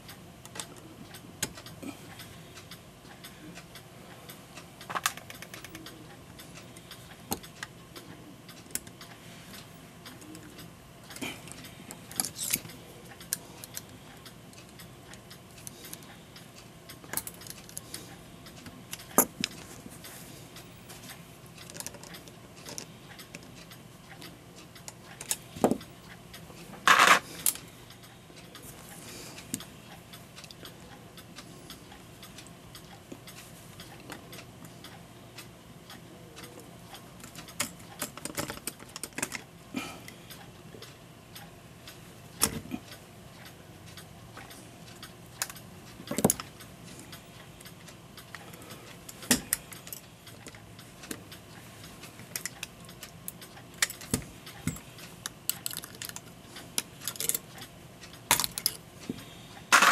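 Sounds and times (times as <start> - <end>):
clock parts and tools clicking: 0.0 - 59.9.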